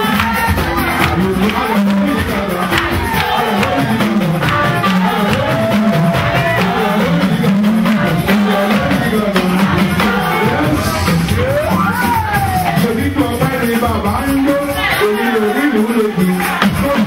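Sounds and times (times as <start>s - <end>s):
drum kit beat: 0.0s - 17.0s
repeating bass line: 0.0s - 17.0s
sliding lead melody: 0.7s - 17.0s.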